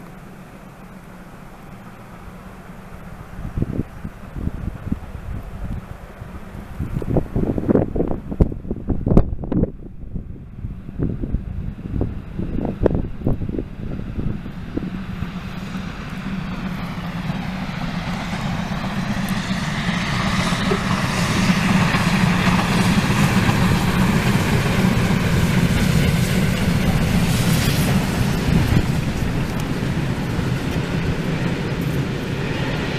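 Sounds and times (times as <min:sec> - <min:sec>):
steam train passing: 0:00.0 - 0:08.8, 0:10.5 - 0:32.9
wind buffeting microphone: 0:00.0 - 0:32.9.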